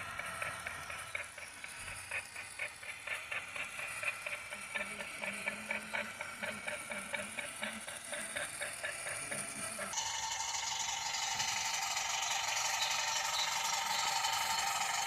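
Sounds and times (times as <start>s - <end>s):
small machine clicking rhythmically: 0.0s - 15.0s.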